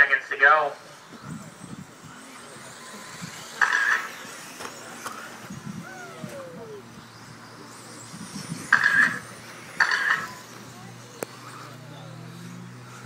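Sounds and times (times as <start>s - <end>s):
electric rc cars racing: 0.0s - 13.0s
falling whine: 0.0s - 13.0s.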